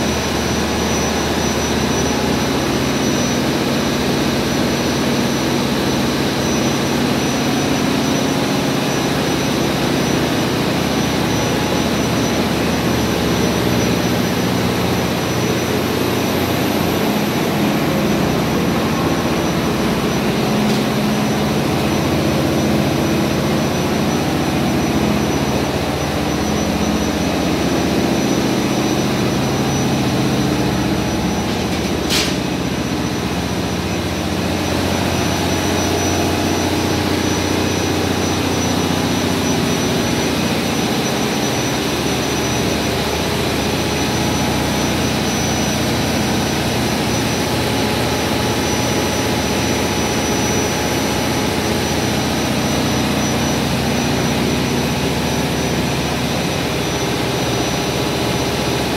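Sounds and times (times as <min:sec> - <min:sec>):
diesel machinery drone: 0:00.0 - 0:58.9
thin high whine: 0:00.0 - 0:58.9.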